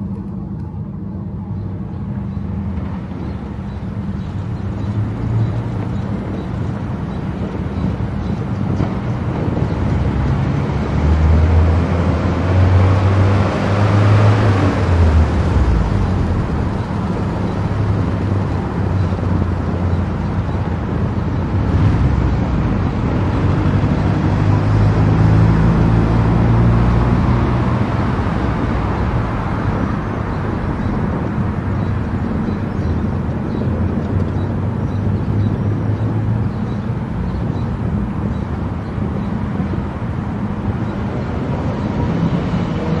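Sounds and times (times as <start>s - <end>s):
car tyre and road noise: 0.0s - 43.0s.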